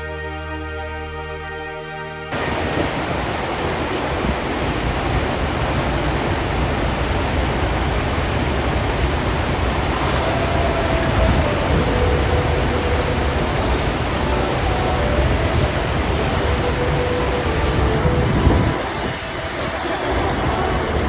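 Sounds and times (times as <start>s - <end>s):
background music: 0.0s - 4.2s, 4.9s - 21.0s
loud steady rushing noise: 2.3s - 21.0s.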